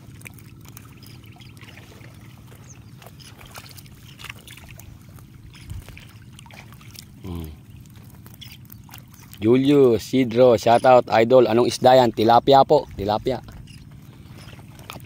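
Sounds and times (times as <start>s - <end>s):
small engine humming: 0.0s - 11.9s, 12.9s - 15.0s
seabirds calling: 0.0s - 15.0s.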